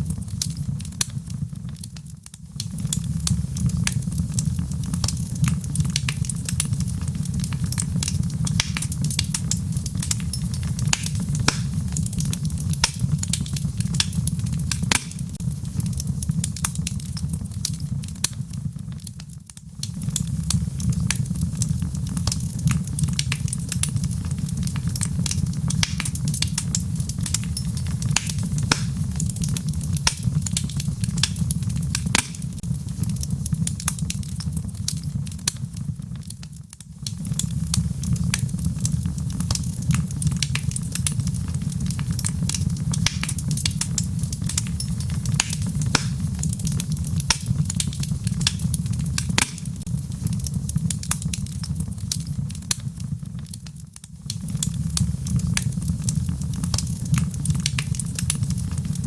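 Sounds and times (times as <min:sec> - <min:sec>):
fire rumbling: 0:00.0 - 0:59.0
wood crackling and popping: 0:00.0 - 0:59.0.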